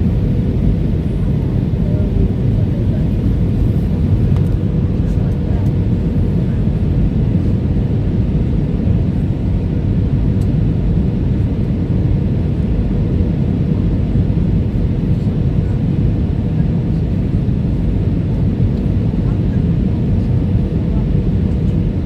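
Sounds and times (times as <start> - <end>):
airliner landing rumble: 0.0 - 22.0.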